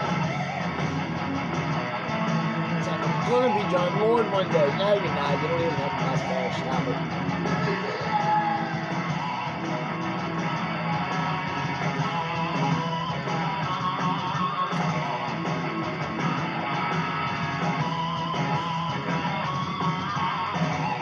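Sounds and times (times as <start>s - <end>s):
electric guitar: 0.0s - 21.0s
live rock band music: 0.0s - 21.0s.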